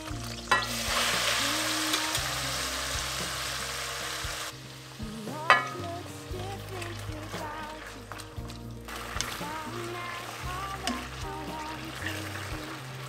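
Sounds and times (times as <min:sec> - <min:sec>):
soft background music: 0:00.0 - 0:13.0
spaghetti sizzling in hot oil: 0:00.0 - 0:13.0.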